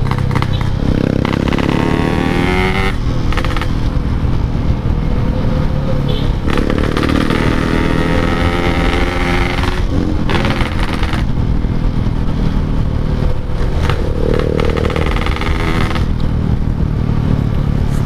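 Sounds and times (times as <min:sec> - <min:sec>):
motorcycle two-stroke engine revving: 0:00.0 - 0:04.3, 0:06.0 - 0:18.0.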